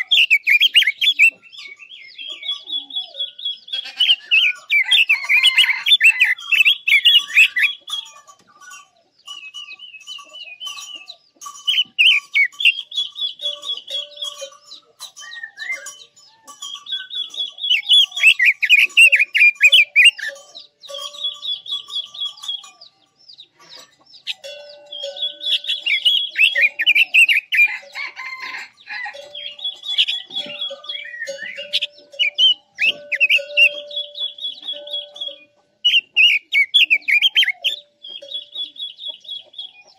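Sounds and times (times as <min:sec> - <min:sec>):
bird warbling and trilling: 0:00.0 - 0:39.9.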